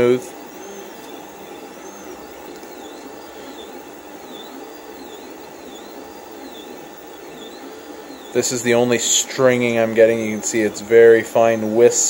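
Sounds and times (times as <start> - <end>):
steady fan hum: 0.0 - 12.0
stepper motors whining: 0.0 - 12.0.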